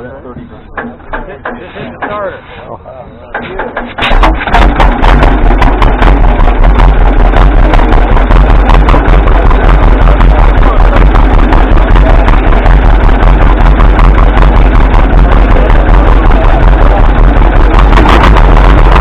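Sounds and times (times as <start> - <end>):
tractor engine popping: 0.7 - 2.3, 3.3 - 19.0.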